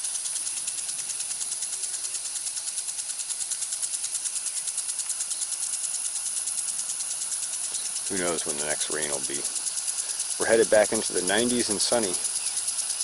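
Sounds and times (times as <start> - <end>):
sprinkler spraying water: 0.0 - 13.0.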